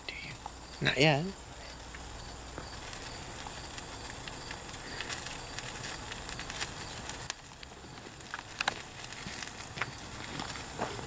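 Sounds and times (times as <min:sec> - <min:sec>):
small fire crackling and popping: 0:00.0 - 0:11.0
steady hiss: 0:00.0 - 0:11.0.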